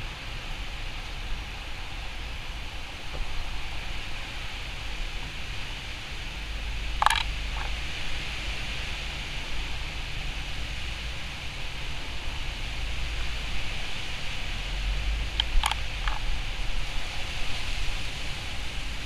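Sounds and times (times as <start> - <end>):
low rumble: 0.0 - 19.0
outdoor background hiss: 0.0 - 19.0.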